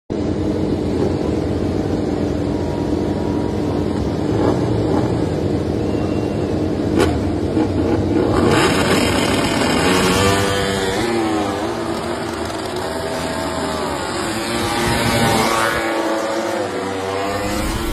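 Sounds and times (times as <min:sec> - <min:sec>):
racing motorcycle engines revving: 0:00.2 - 0:17.9.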